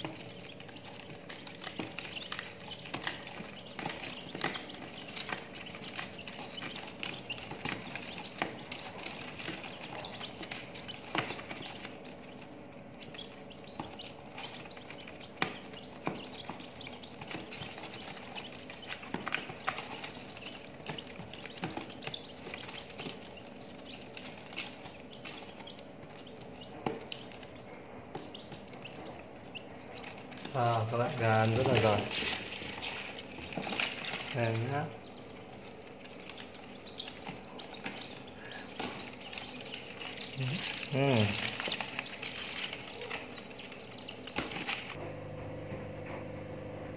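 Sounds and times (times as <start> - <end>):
chicks pecking feed on paper: 0.0 - 45.0
high chick peeps: 0.0 - 45.0.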